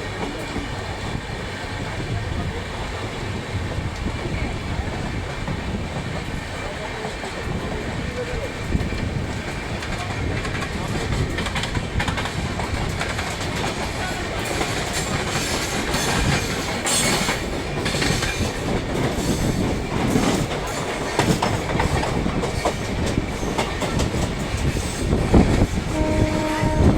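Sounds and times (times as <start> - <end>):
rush of track noise: 0.0 - 26.9
train wheels clattering over rail joints: 3.8 - 26.9.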